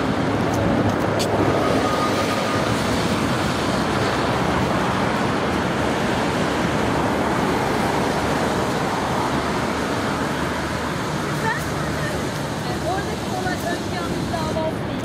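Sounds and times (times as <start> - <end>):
distant traffic: 0.0 - 15.0
wind: 0.0 - 15.0.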